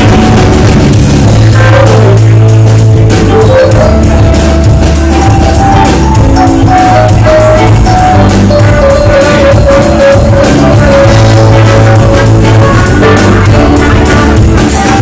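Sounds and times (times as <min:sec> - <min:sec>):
bass: 0:00.0 - 0:15.0
drum kit beat: 0:00.0 - 0:15.0
electric guitar: 0:00.0 - 0:15.0
keyboard: 0:00.0 - 0:15.0.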